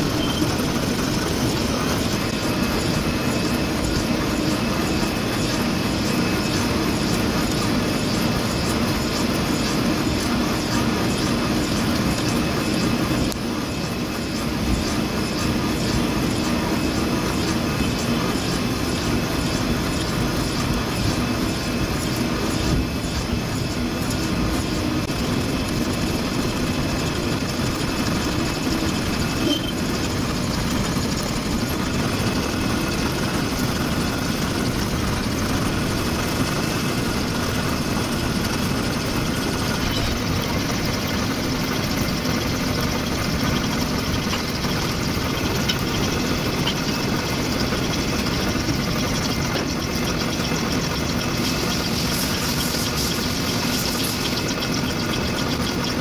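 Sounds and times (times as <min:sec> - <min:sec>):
milling machine cutting steel: 0:00.0 - 0:56.0.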